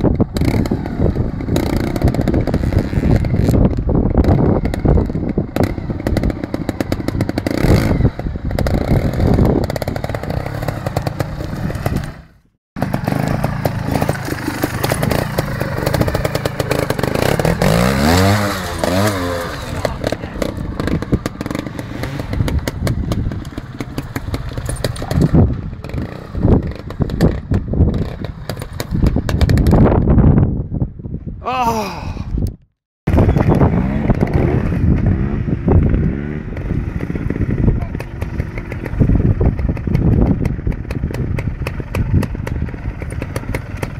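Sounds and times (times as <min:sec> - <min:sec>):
motorcycle engine revving: 0:00.0 - 0:30.4, 0:33.1 - 0:43.9.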